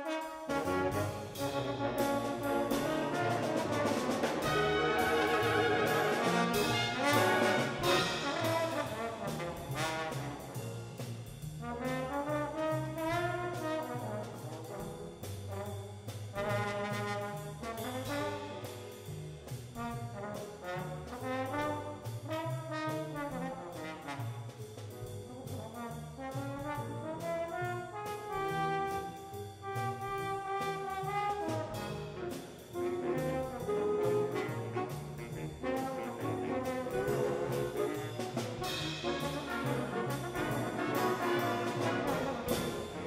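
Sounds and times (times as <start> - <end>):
brass solo: 0.0 - 10.9, 11.6 - 18.9, 19.8 - 24.5, 25.3 - 43.0
bass and cymbal beat: 0.0 - 43.0
jazz brass band playing: 0.0 - 43.0.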